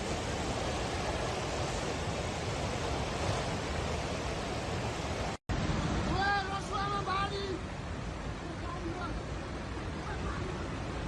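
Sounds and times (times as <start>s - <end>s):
rushing floodwater: 0.0s - 11.0s.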